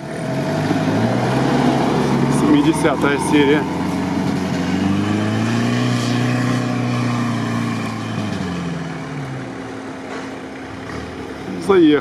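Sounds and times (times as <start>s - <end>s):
vehicle engine revving uphill: 0.0s - 12.0s.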